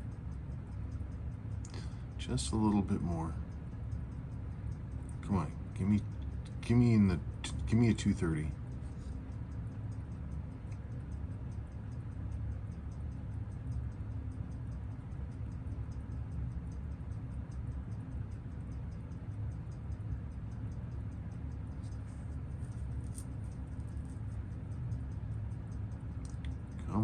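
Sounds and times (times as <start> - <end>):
steady low hum: 0.0 - 27.0
watch movement ticking: 0.0 - 27.0.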